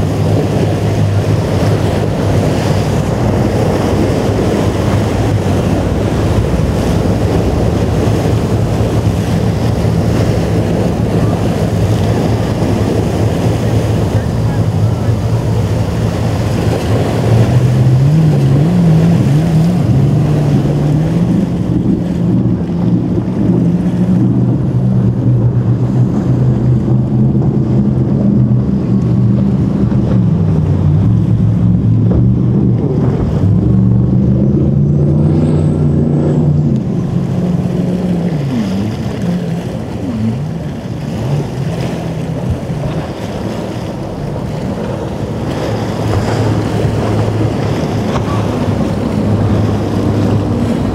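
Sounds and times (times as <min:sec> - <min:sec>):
motorboat engine running: 0:00.0 - 0:50.9
water rumbling: 0:00.0 - 0:50.9
wind: 0:00.0 - 0:50.9.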